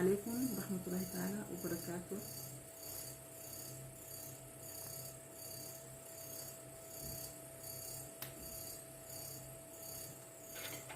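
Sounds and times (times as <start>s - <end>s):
faint steady hum: 0.0s - 10.9s.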